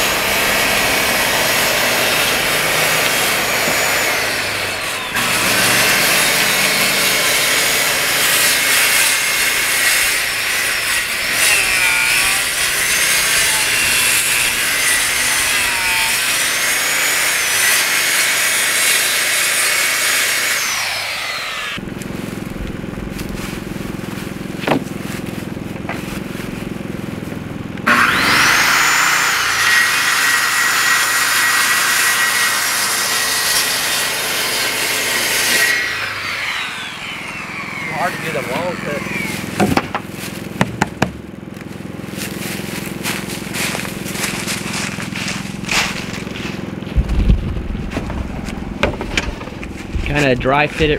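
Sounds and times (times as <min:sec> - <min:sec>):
power saw cutting wood: 0:00.0 - 0:47.0, 0:47.9 - 0:50.9.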